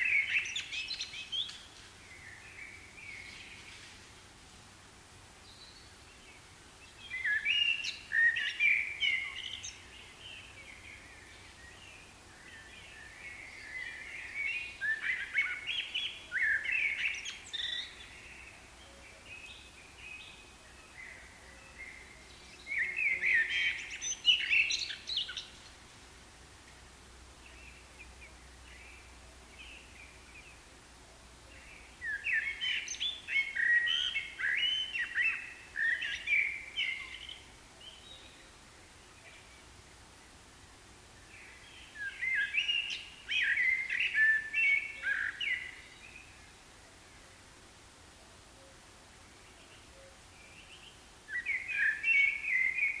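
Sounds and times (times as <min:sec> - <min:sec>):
faint steady hiss: 0:00.0 - 0:53.0
songbird chirping: 0:00.0 - 0:53.0.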